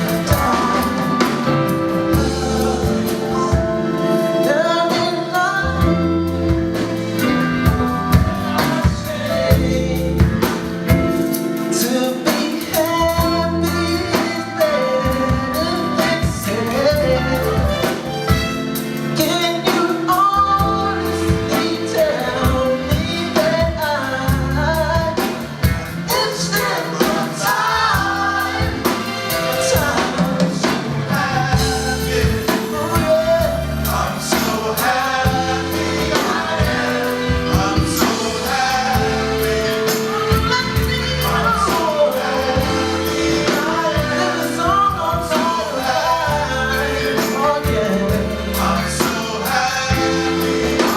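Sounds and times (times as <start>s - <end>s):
bass line: 0.0s - 12.0s, 12.8s - 50.9s
drum kit: 0.0s - 50.9s
live band playing: 0.0s - 50.9s.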